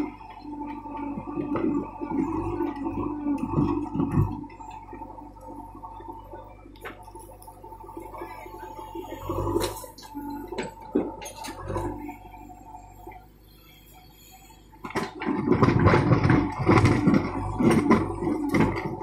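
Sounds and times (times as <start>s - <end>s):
diesel engine running: 0.0s - 19.0s
hydraulic hum: 0.0s - 19.0s.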